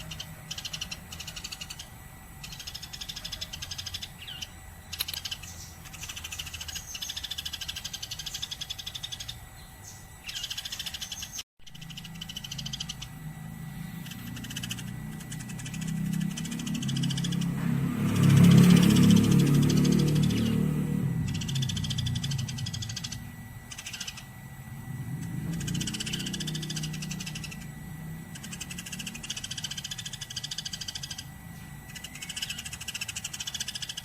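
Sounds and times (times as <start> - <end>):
low steady hum: 0.0 - 34.0
sparrow chirping: 0.0 - 34.0.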